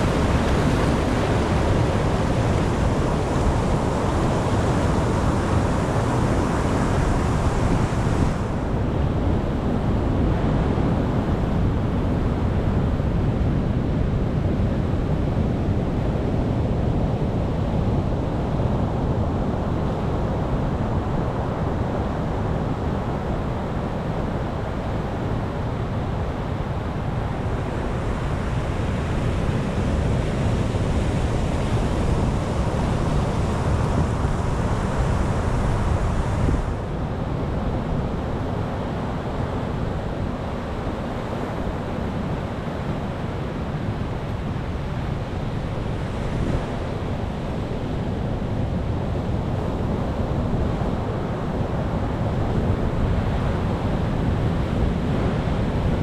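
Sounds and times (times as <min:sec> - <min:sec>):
ocean waves and surf: 0:00.0 - 0:56.0.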